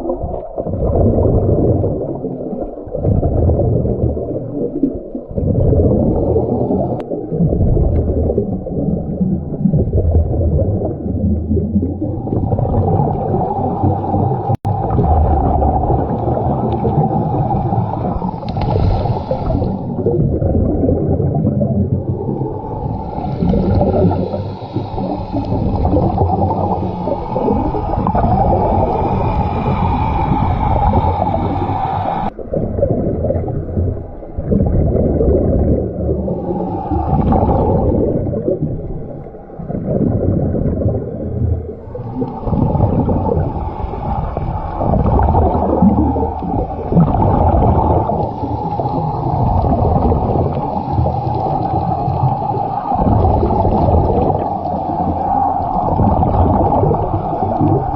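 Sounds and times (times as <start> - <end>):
gurgling breathing bubbles: 0.0 - 57.9
muffled underwater rumble: 0.0 - 57.9.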